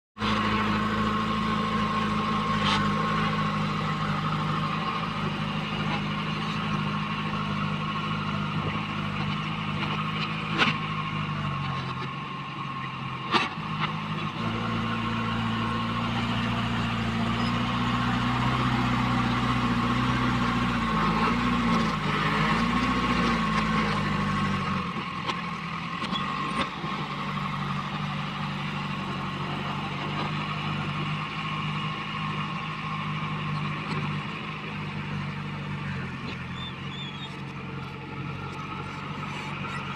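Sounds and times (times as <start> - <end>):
diesel engine under load: 0.2 - 39.9.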